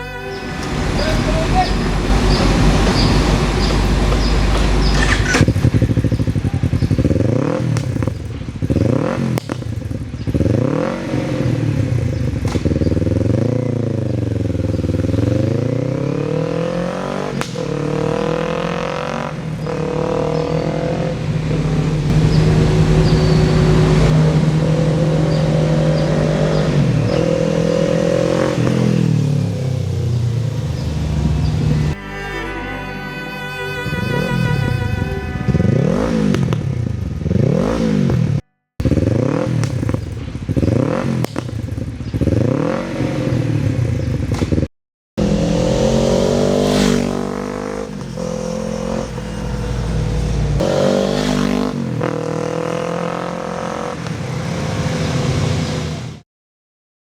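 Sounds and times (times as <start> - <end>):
motorcycle engine revving: 0.0 - 32.0, 34.0 - 56.2.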